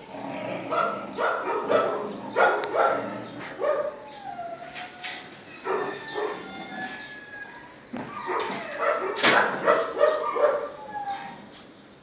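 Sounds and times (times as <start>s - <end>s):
dogs barking and yipping: 0.0s - 11.7s
dog whining: 0.7s - 11.6s.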